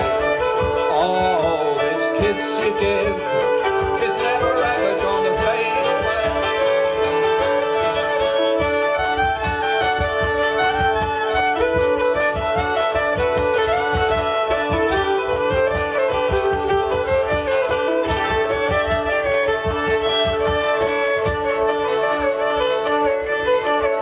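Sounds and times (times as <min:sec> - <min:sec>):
cajon beats: 0:00.0 - 0:24.0
fiddle melody: 0:00.0 - 0:24.0.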